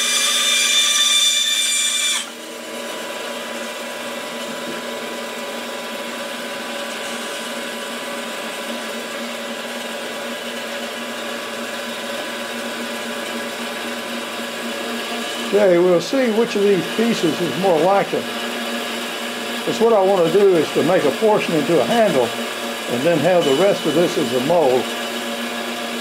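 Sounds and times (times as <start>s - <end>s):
band saw motor hum and whir: 0.0s - 26.0s.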